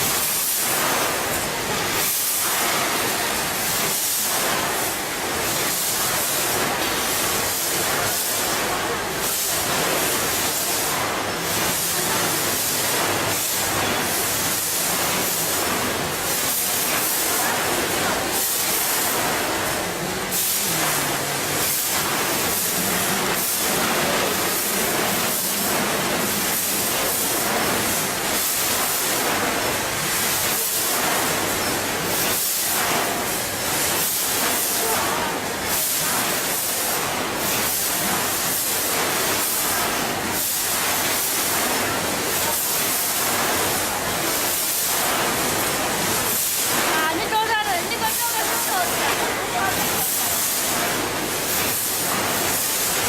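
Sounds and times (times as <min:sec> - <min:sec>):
packaging machine hissing: 0:00.0 - 0:53.0.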